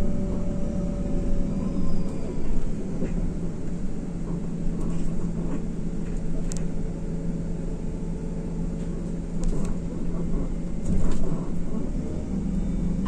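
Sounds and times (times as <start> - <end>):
bus engine hum and rumble: 0.0 - 13.0.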